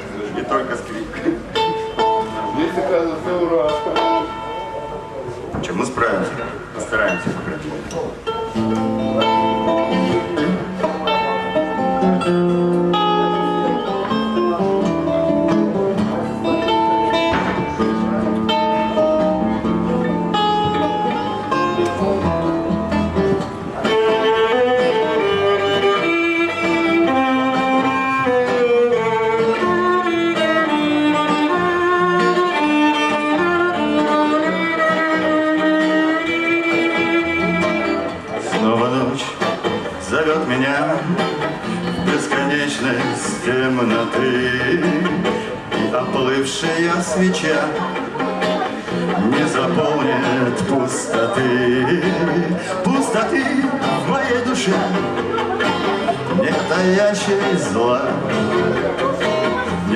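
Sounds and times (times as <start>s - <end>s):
guitar playing: 0.0s - 59.9s
violin melody: 8.3s - 59.9s.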